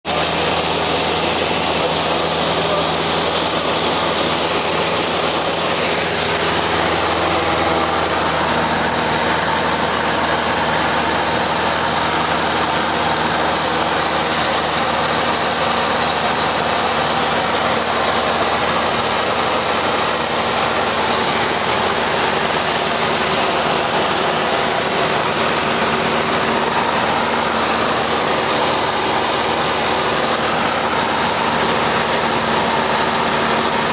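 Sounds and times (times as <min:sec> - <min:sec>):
airplane engine and propeller: 0:00.1 - 0:33.9.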